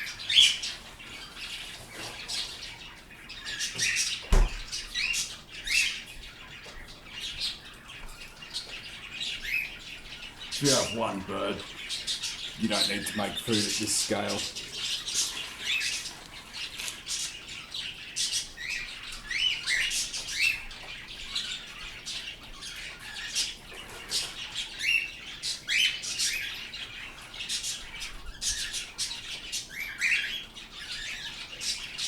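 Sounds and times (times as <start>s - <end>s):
small birds chirping and squawking: 0.0s - 32.0s.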